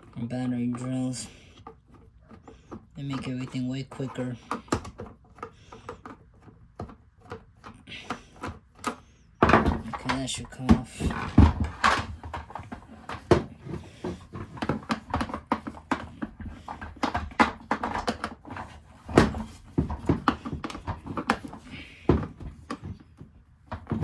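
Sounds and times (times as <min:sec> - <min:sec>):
plastic vacuum parts rattling: 0:00.0 - 0:24.0.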